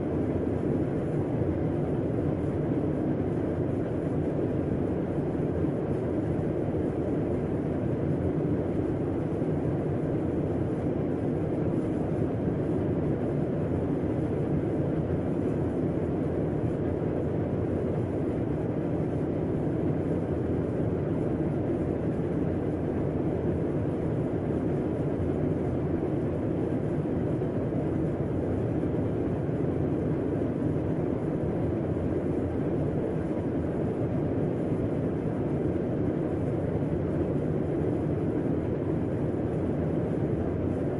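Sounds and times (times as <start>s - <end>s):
air conditioner humming: 0.0s - 40.9s.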